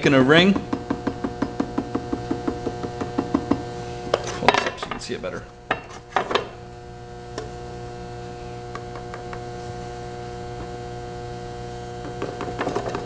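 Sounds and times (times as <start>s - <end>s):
pottery wheel motor hum: 0.0s - 13.0s.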